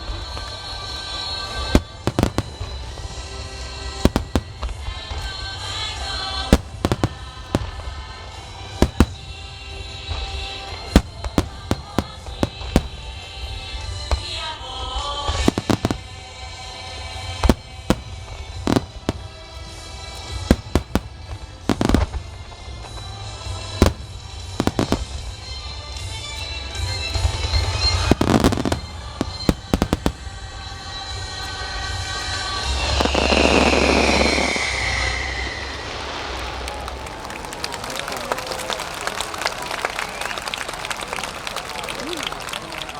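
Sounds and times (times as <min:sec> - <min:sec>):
music: 0:00.0 - 0:36.9
fireworks bursting: 0:00.0 - 0:42.9.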